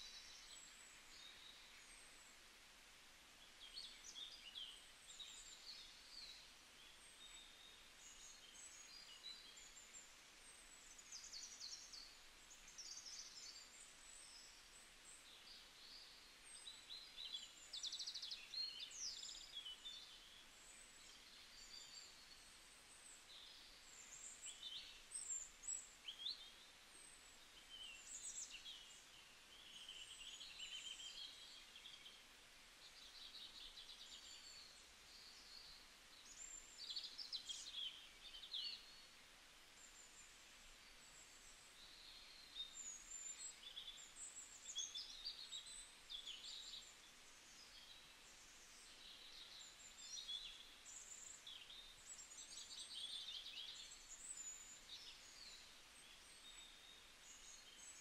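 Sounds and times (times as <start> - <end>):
light background hiss: 0.0 - 58.0
small birds chirping and trilling: 3.4 - 58.0.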